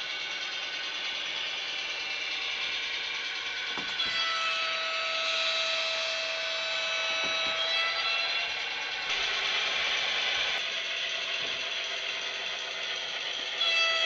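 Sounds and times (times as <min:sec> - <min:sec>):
model train wheels and motor: 0:00.0 - 0:14.0.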